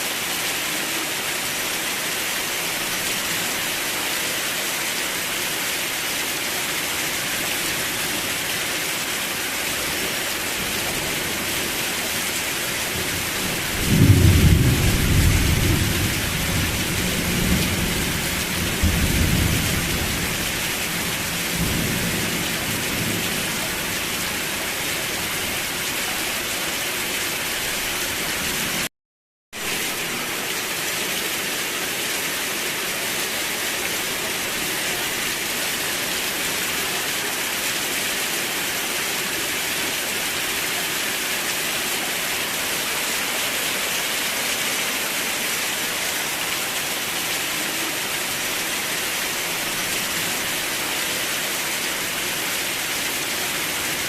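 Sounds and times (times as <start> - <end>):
heavy rain: 0.0 - 28.9, 29.5 - 54.0.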